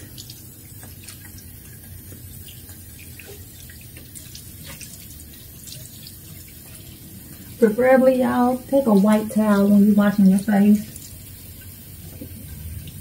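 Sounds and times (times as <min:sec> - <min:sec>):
tap water running: 0:00.0 - 0:13.0
water splashing and dripping: 0:00.0 - 0:13.0.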